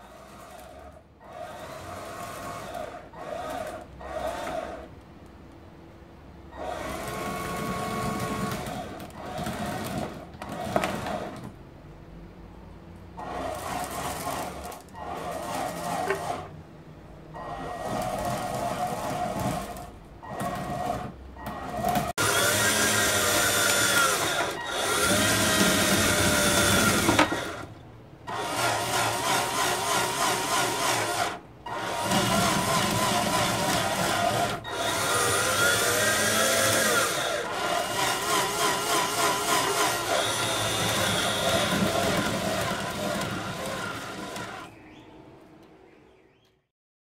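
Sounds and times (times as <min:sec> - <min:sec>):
small electric winch motor running: 0:00.0 - 0:04.9, 0:06.5 - 0:11.6, 0:13.2 - 0:16.5, 0:17.3 - 0:44.8.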